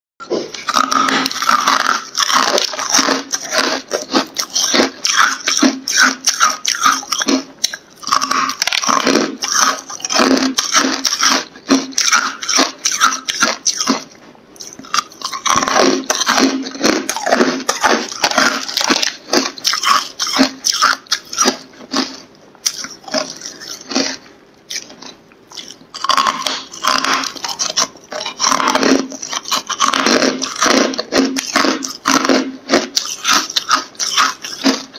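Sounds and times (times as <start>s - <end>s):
ice crunching being chewed: 0.2s - 34.9s.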